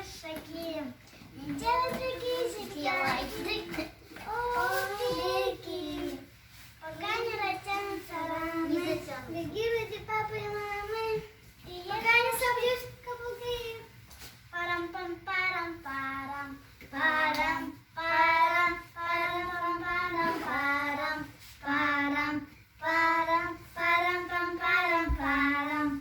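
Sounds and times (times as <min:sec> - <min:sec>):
children singing wordless melody: 0:01.4 - 0:26.0.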